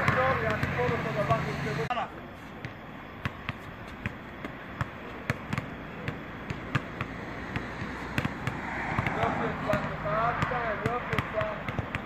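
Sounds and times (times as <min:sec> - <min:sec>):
basketballs dribbled low and fast: 0:00.0 - 0:01.8, 0:02.6 - 0:12.0.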